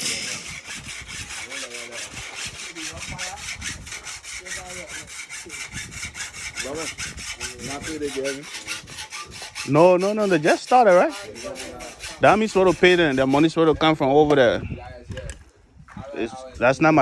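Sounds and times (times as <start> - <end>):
rapid rasping scraping: 0.0 - 13.9.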